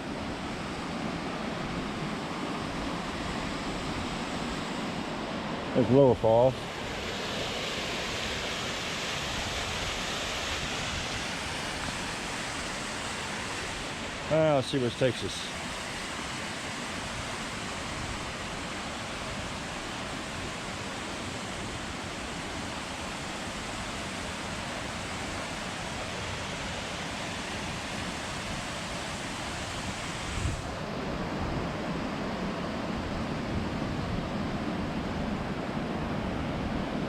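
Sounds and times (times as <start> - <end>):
waterfall rushing water: 0.0 - 30.8.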